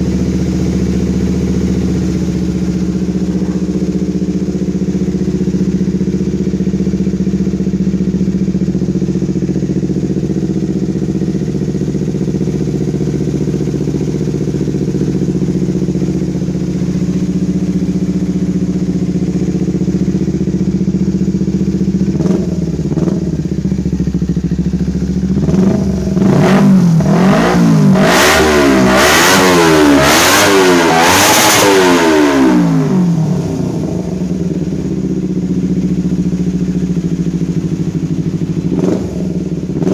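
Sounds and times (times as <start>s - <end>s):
motorcycle engine idling: 0.0s - 39.9s
motorcycle engine revving: 0.0s - 39.9s.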